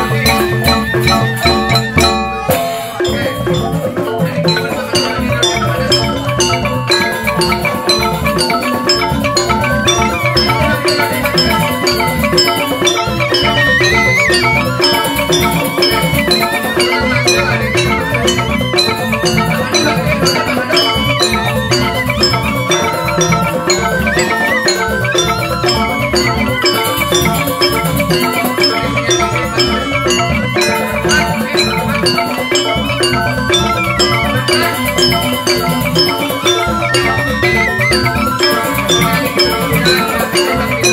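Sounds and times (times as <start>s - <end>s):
bamboo xylophones ringing: 0.0s - 40.9s
hand drums: 0.0s - 40.9s.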